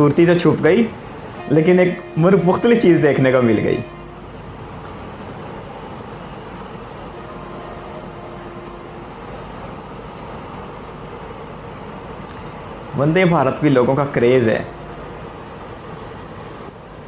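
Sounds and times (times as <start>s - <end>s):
express train passing: 0.0s - 17.0s
freight train running past: 0.0s - 17.0s.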